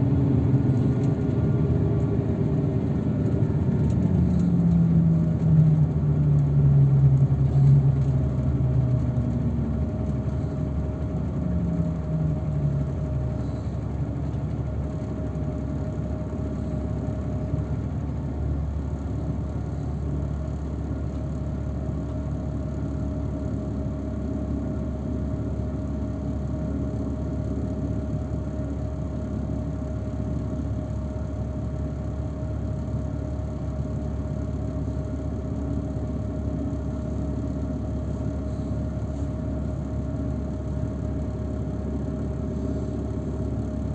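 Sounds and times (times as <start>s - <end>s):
vehicle engine rumble: 0.0s - 43.9s.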